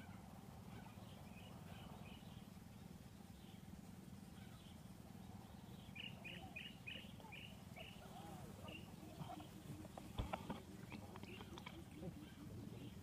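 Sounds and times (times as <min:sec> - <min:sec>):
faint bird chirps: 0:00.0 - 0:13.0
low steady hum: 0:00.0 - 0:13.0.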